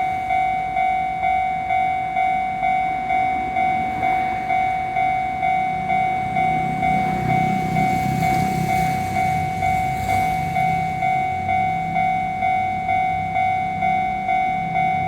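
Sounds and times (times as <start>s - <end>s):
level crossing warning bell: 0.0s - 15.0s
train rumble: 0.0s - 15.0s.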